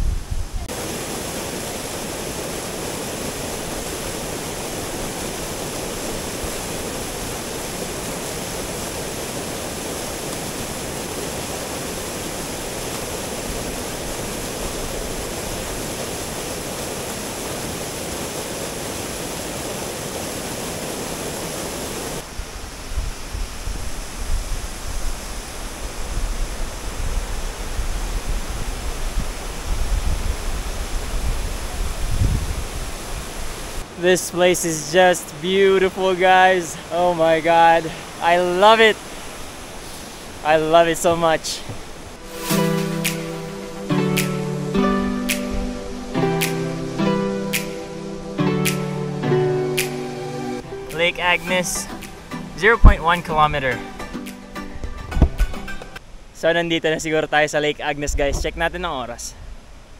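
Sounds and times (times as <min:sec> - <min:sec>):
waterfall rushing: 0:00.6 - 0:57.5.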